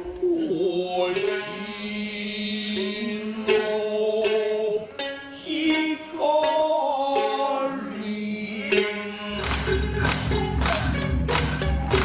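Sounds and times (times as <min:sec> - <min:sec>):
plucked shamisen notes: 0:00.0 - 0:12.0.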